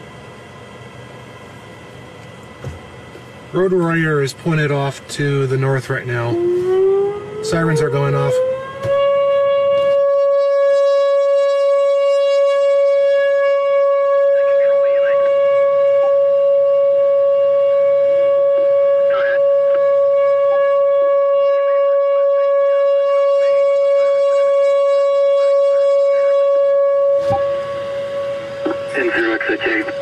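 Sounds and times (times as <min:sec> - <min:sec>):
loud steady warning siren: 0:00.0 - 0:30.0.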